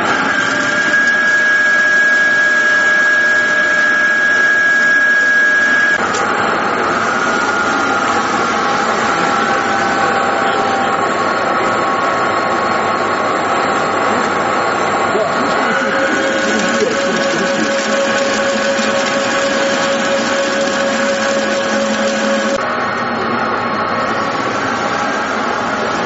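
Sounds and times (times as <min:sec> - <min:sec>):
machine running with high whine: 0:00.0 - 0:26.0.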